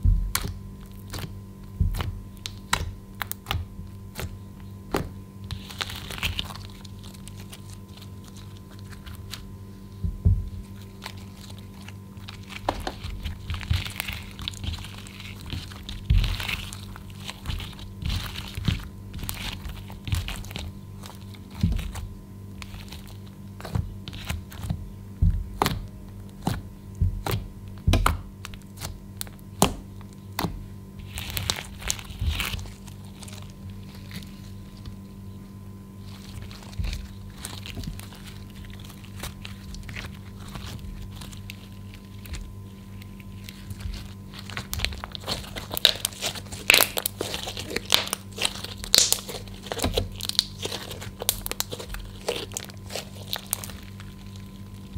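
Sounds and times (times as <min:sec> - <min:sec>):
slime popping and crackling: 0:00.2 - 0:09.5, 0:10.4 - 0:35.0, 0:36.0 - 0:54.9.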